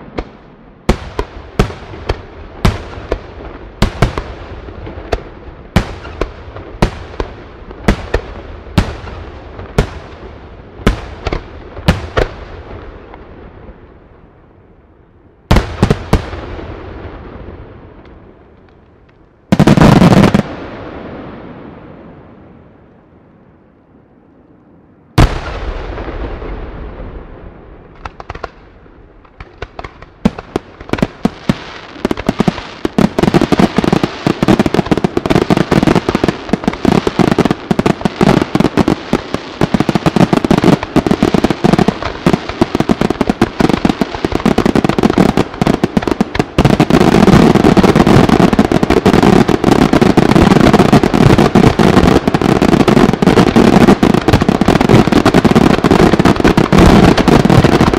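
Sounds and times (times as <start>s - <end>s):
fireworks bangs and crackling: 0.0s - 14.6s, 15.4s - 22.8s, 25.2s - 57.9s.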